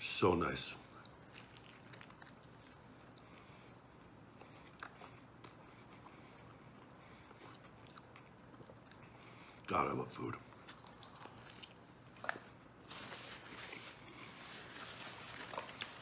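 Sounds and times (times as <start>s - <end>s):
faint chewing: 0.8s - 9.7s, 10.4s - 16.0s.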